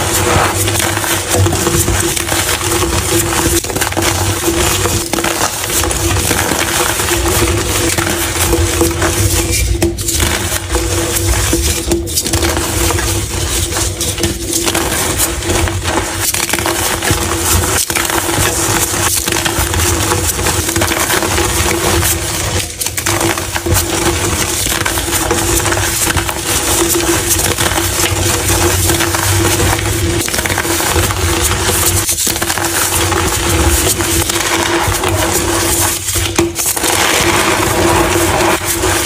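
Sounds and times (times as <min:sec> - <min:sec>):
chalk being crushed: 0:00.0 - 0:39.0.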